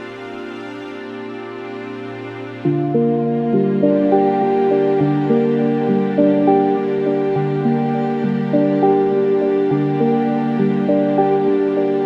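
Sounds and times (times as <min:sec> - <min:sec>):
soft melodic background music: 0:00.0 - 0:12.0.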